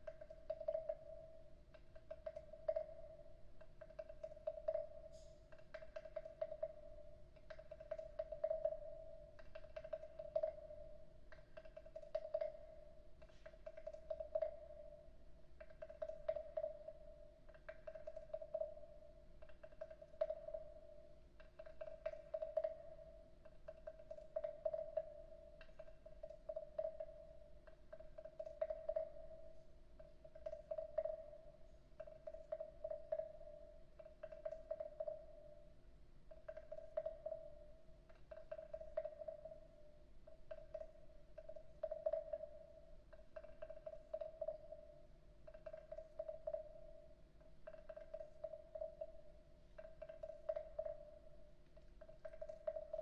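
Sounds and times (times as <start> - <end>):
wooden frog clicks: 0.0 - 35.7, 36.3 - 53.0.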